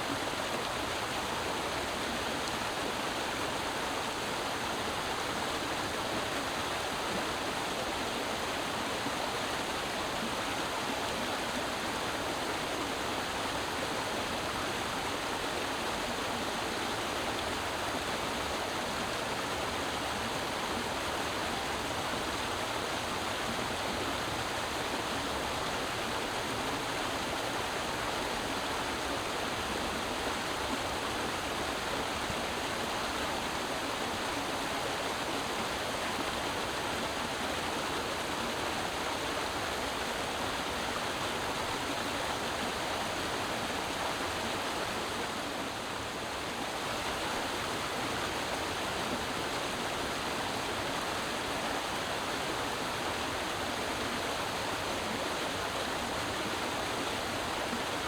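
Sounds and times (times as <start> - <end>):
creek water running over rocks: 0.0 - 58.0.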